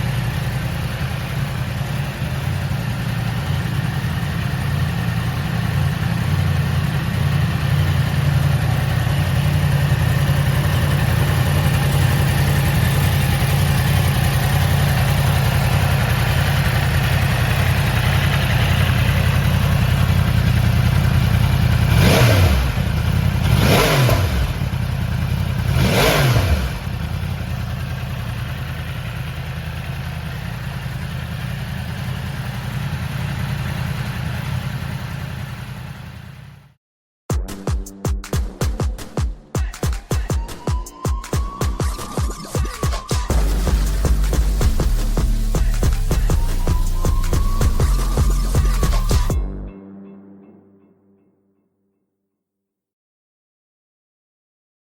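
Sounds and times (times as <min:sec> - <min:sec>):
motorcycle engine idling: 0:00.0 - 0:36.8, 0:37.4 - 0:49.6
motorcycle engine revving: 0:00.0 - 0:36.8, 0:41.5 - 0:49.6.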